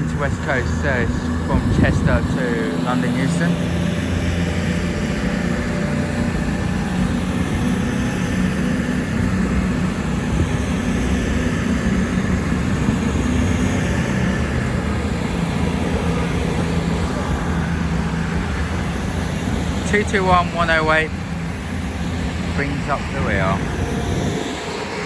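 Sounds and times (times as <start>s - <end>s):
diesel train engines humming: 0.0s - 25.0s.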